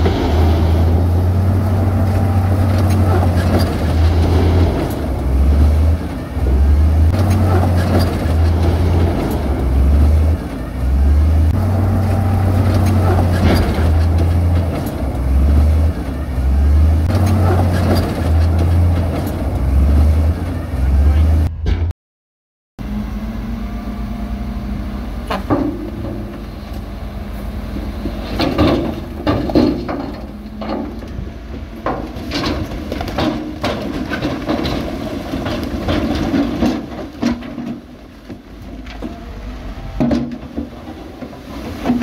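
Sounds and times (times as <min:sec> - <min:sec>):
diesel machinery engine under load: 0:00.0 - 0:21.9, 0:22.8 - 0:42.0.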